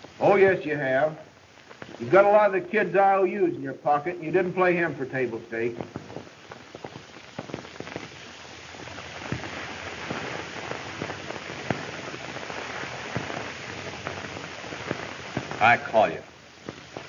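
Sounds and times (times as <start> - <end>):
film soundtrack hiss and crackle: 0.0 - 17.0.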